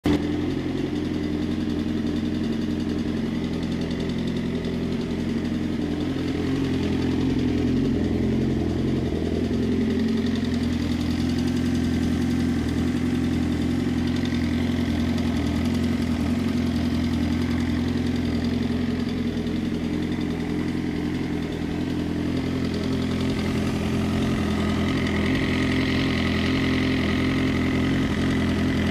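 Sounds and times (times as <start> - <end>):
engine ticking: 0.0 - 28.9
motorcycle engine idling: 0.0 - 28.9.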